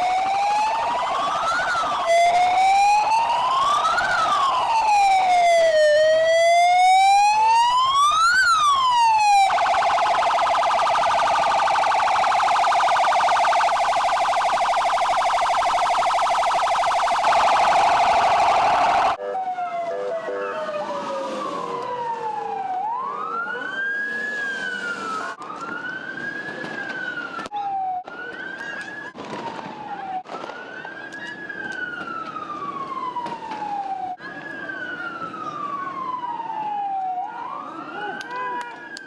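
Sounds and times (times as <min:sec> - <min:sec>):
ambulance siren wailing and warbling: 0:00.0 - 0:39.0.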